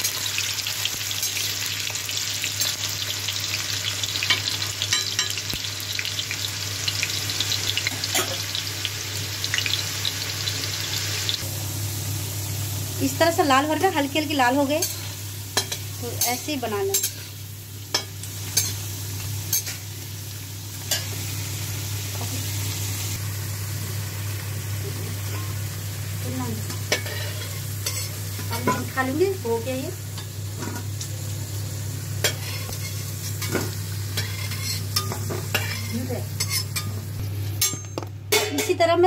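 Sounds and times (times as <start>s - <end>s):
potatoes sizzling in hot oil: 0.0s - 37.6s.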